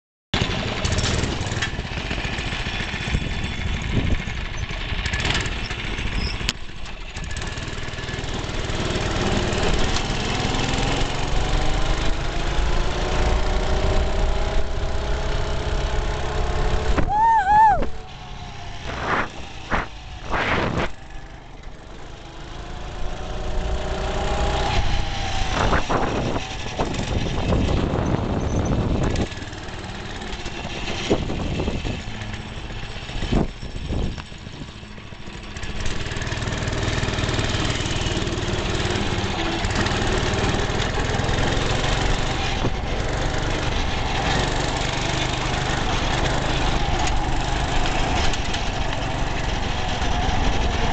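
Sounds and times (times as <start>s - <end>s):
mini bike engine running: 0.4s - 50.9s.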